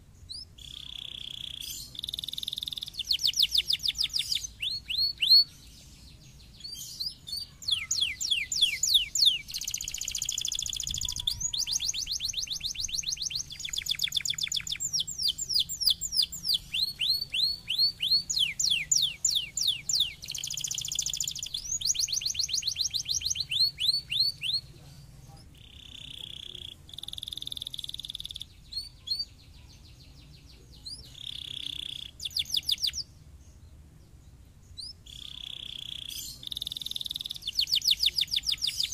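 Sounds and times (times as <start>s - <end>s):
canary singing trilled song: 0.2s - 33.6s, 34.6s - 38.9s.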